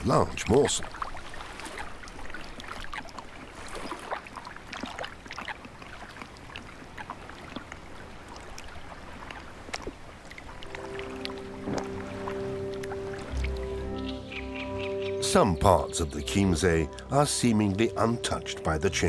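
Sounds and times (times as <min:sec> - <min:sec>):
water lapping: 0:00.0 - 0:19.0
water splashing and dripping: 0:00.0 - 0:19.0.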